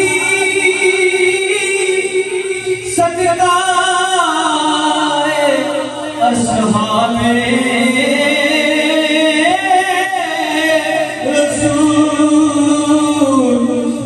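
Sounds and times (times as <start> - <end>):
person singing devotional song: 0.0 - 14.0.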